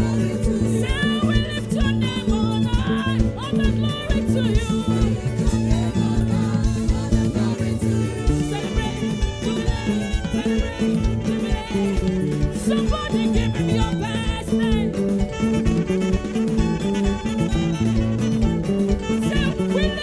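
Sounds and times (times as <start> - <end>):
upbeat church praise music: 0.0 - 20.0.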